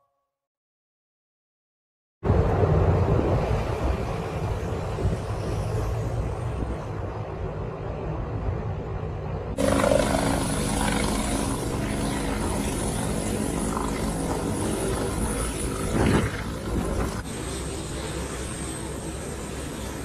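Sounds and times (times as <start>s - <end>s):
low outdoor rumble: 2.2s - 20.0s
helicopter hovering: 2.3s - 20.0s.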